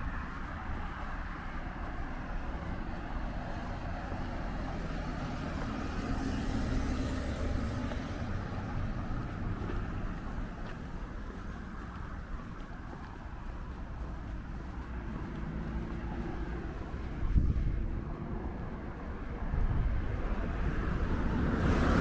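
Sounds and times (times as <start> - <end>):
road traffic going by: 0.0 - 22.0
vehicle passing: 0.0 - 22.0.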